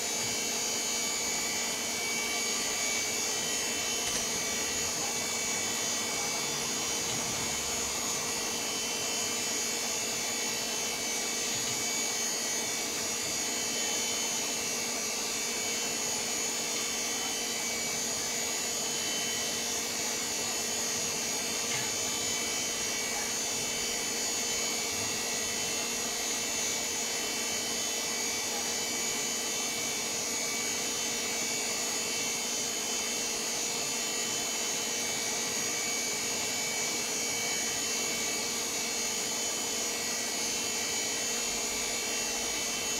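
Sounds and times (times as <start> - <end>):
computer fan whir: 0.0 - 42.9.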